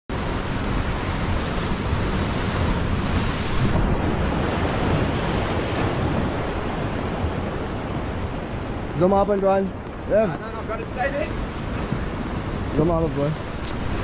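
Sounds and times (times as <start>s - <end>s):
surf breaking on rocky shore: 0.1s - 14.0s
wind buffeting microphone: 0.1s - 14.0s.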